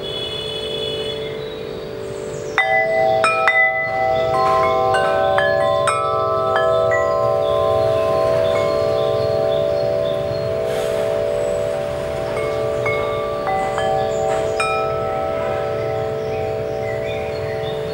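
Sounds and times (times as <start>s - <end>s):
metal wind chime ringing: 1.3s - 17.9s.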